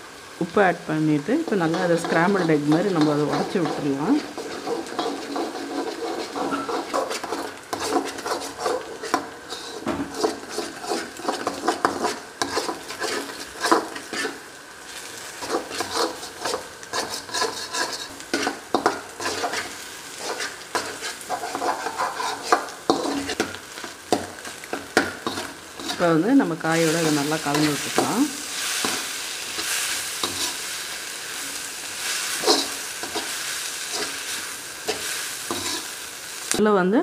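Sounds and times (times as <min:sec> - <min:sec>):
eggs sizzling: 0:00.0 - 0:36.6
metal spatula scraping wok: 0:01.4 - 0:36.6.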